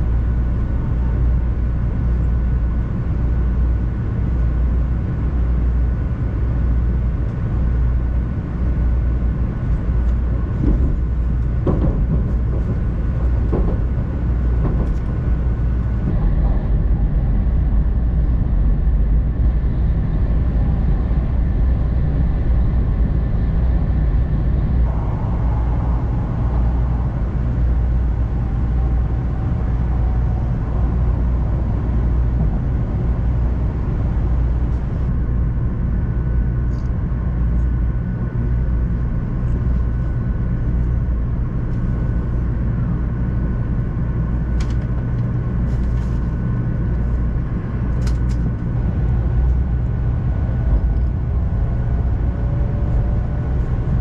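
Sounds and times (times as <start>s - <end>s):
train running low rumble: 0.0s - 54.0s.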